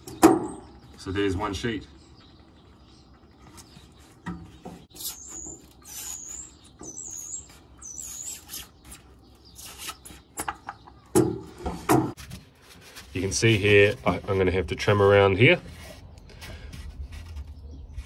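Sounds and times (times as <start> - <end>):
bird chirping: 0.0 - 12.2, 13.2 - 18.0.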